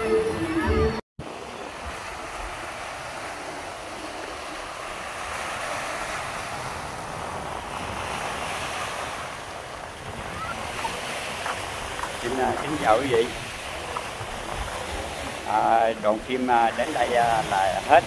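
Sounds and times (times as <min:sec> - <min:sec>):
sea surf washing against shore: 0:00.0 - 0:18.0
wind: 0:00.0 - 0:18.0.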